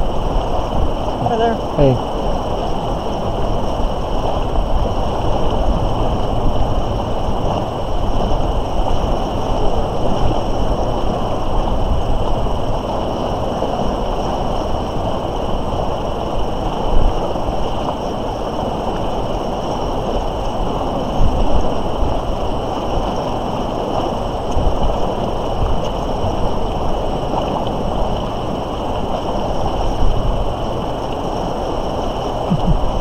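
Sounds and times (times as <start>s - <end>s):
river current rushing: 0.0s - 33.0s
wind rumble on microphone: 0.0s - 33.0s.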